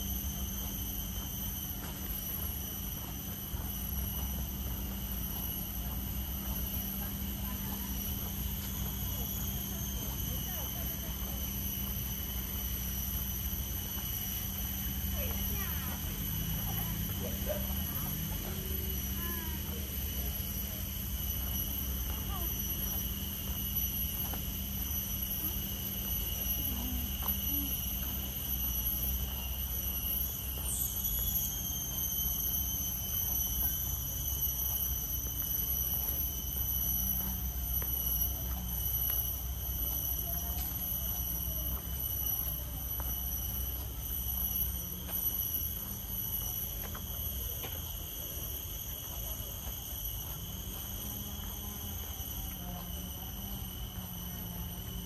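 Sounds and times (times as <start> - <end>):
high-pitched insect whine: 0.0 - 55.0.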